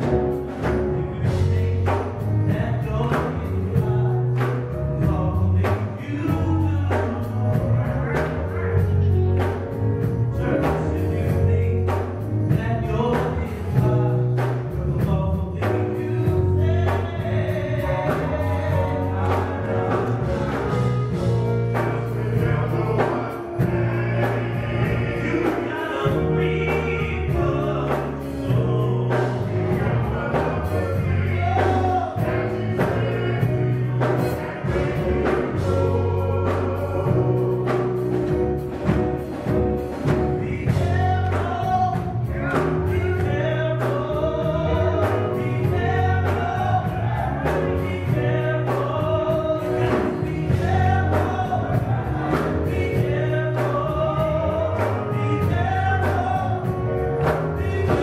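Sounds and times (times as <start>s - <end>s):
drums with steady beat: 0.0s - 58.0s
keyboard: 0.0s - 58.0s
men's vocal group singing gospel: 0.0s - 58.0s.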